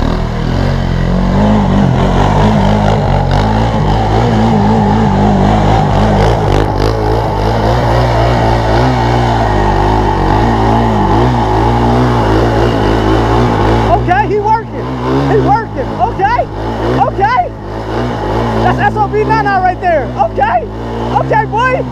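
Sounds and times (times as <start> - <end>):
off-road vehicle engine revving: 0.0 - 21.9.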